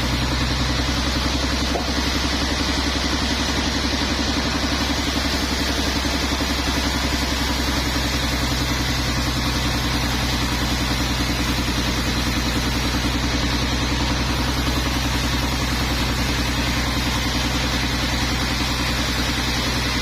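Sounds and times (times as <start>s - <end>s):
engine idling with low throb: 0.0s - 20.0s.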